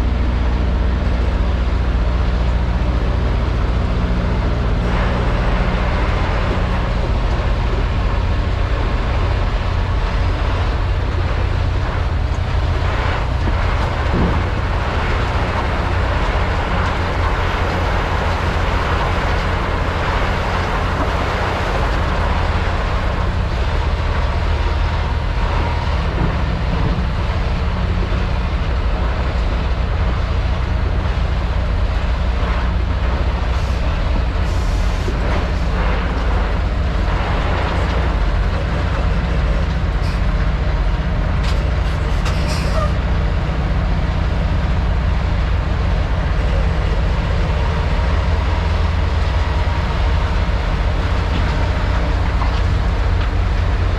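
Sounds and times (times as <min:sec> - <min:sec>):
truck diesel engine drone: 0:00.0 - 0:53.9.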